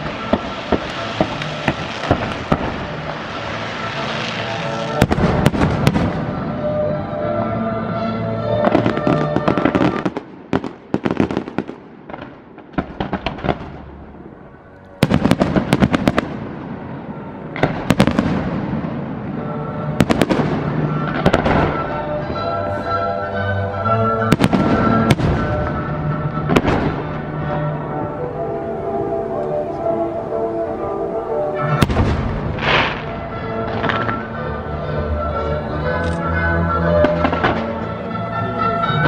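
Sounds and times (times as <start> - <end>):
music: 0.0 - 10.6, 17.1 - 39.0
fireworks bangs and crackling: 0.0 - 28.0, 31.6 - 39.0.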